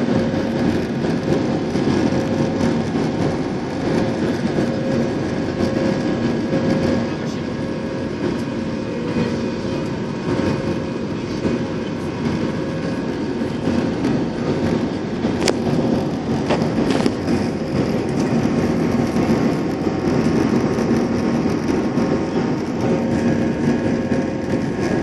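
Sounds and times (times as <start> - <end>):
constant hum tones: 0.0 - 25.0
jet engine and airflow noise: 0.0 - 25.0.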